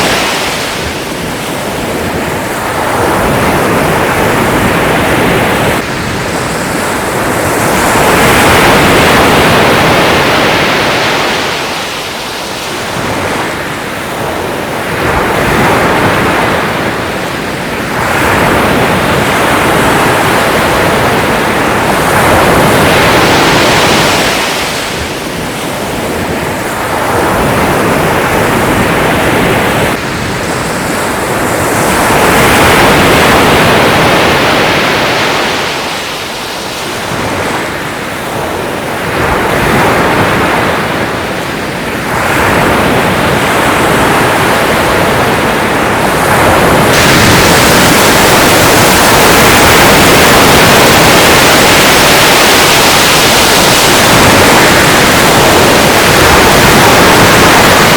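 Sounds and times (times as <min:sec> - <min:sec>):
ocean surf breaking: 0:00.0 - 0:57.9.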